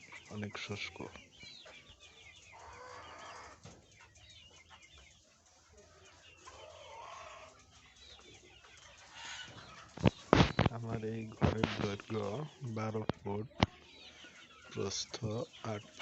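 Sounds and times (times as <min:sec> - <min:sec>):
chickens clucking and chirping: 0:00.0 - 0:16.0.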